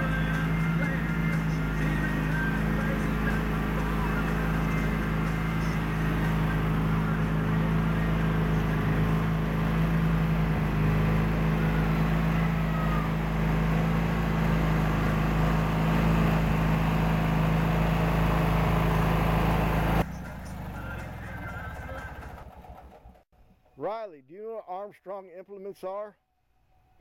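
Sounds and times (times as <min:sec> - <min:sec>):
garden tractor engine running: 0:00.0 - 0:23.8.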